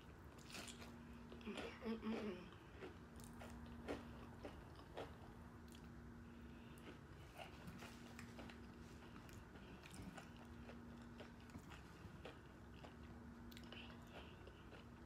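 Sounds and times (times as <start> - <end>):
chewing crunchy taco shell: 0.0 - 15.0.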